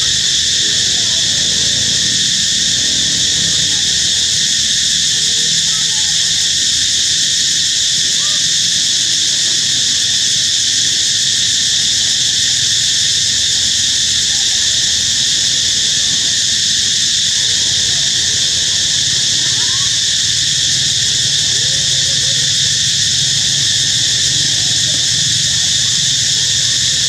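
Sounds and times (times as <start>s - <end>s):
cicada drone: 0.0s - 27.0s.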